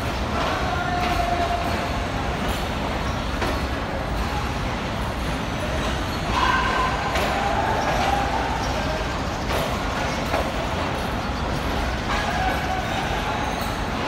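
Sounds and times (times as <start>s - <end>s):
distant voices: 0.0s - 14.0s
low train rumble: 0.0s - 14.0s.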